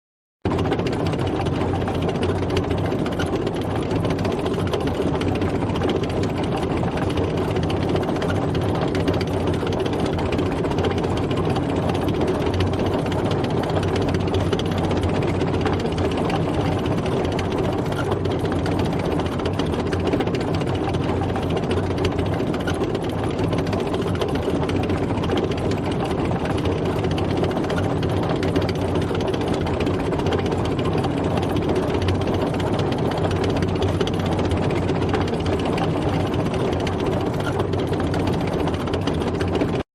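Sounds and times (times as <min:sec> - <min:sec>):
heavy engine running: 0:00.4 - 0:39.8.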